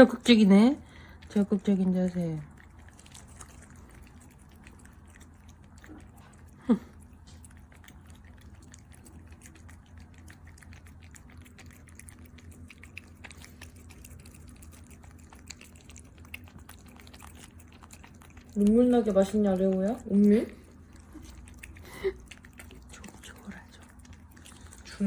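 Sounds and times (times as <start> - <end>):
cats licking wetly: 0.0 - 25.0.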